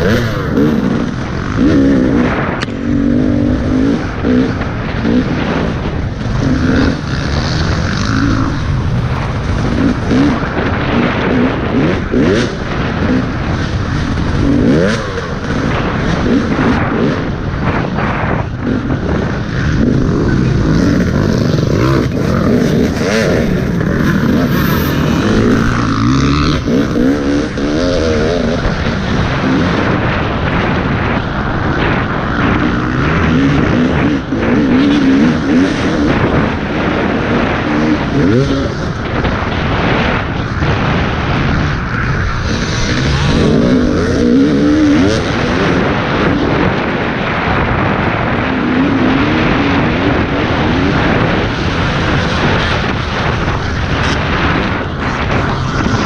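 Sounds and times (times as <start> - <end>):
dirt bike engine revving: 0.0 - 56.0
rough ground noise: 0.0 - 56.0
wind noise: 0.0 - 56.0.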